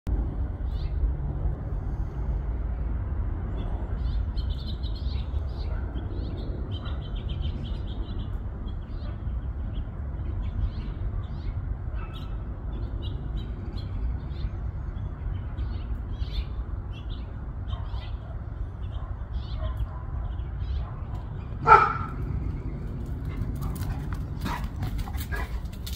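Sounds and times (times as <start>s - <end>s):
steady low rumble: 0.1s - 25.9s
small birds chirping: 3.5s - 25.9s.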